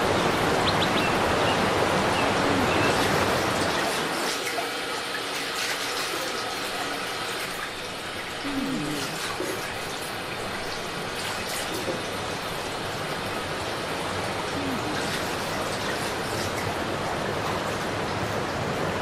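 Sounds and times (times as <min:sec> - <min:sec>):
stream water over rock: 0:00.0 - 0:19.0.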